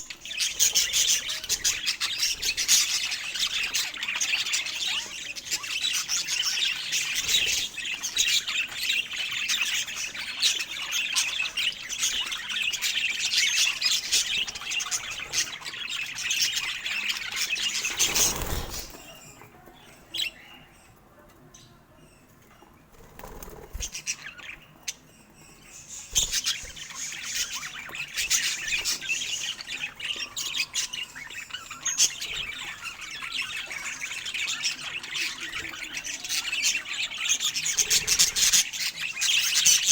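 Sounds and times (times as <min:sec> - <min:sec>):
budgerigars chirping: 0:00.0 - 0:21.0, 0:23.2 - 0:39.9.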